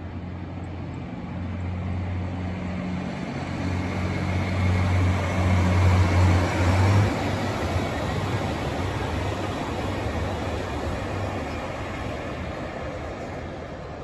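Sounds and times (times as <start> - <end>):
train diesel engine hum: 0.0 - 14.0
train rushing noise: 0.0 - 14.0.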